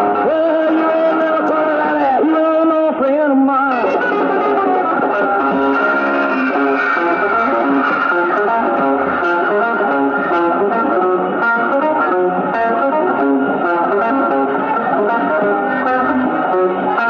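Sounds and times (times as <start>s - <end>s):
electric guitar: 0.0s - 17.0s
rock and roll band playing: 0.0s - 17.0s.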